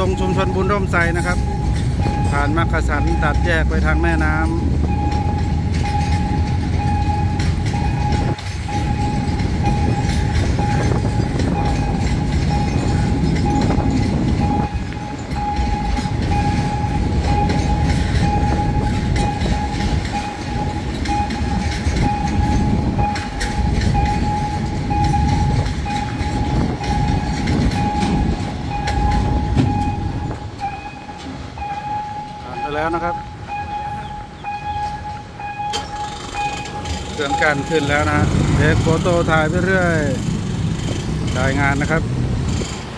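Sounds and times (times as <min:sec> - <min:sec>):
level crossing warning tone: 0:00.0 - 0:42.1
freight train rolling past: 0:00.0 - 0:42.9
wheels clacking over rail joints: 0:00.0 - 0:42.9.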